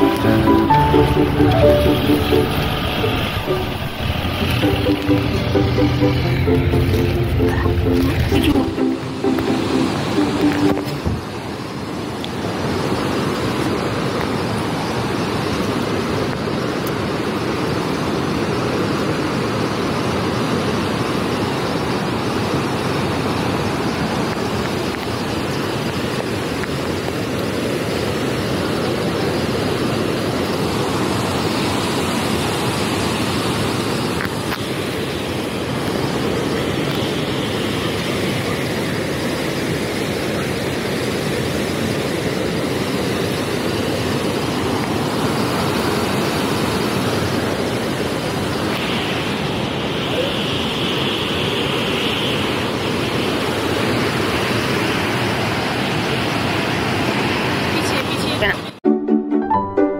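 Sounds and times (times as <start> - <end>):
river rushing over boulders: 7.4 - 58.4.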